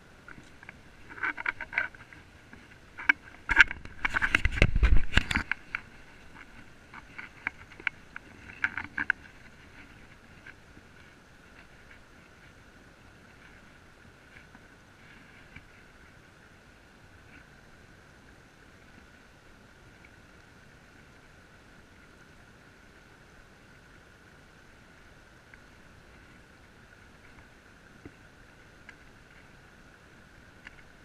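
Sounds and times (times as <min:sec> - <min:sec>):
river rushing over rocks: 0:00.0 - 0:31.0.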